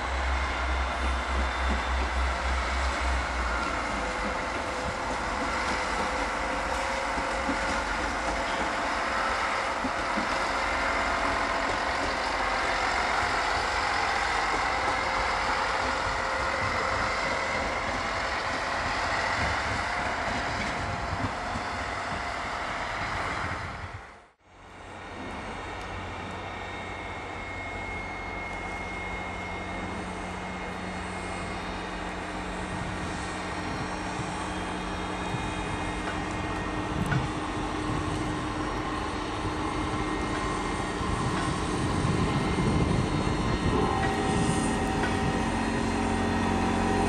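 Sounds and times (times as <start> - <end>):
diesel railcar engine drone: 0.0 - 47.0.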